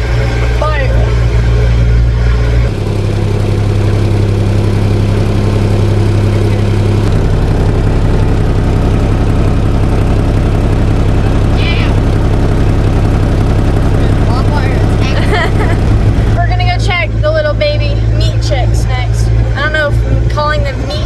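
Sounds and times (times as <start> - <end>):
small vehicle engine running: 0.0 - 21.0.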